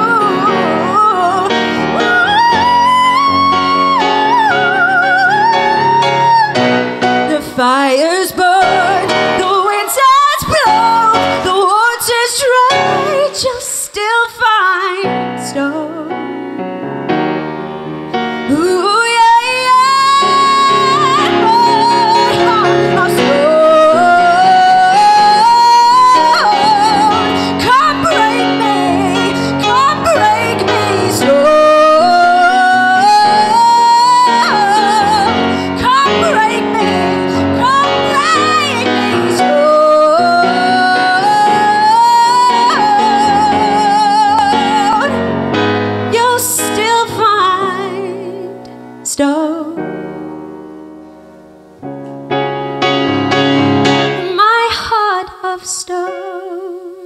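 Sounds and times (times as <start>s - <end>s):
woman singing a ballad: 0.0s - 16.6s, 18.3s - 50.4s, 53.9s - 57.0s
grand piano: 0.0s - 57.0s.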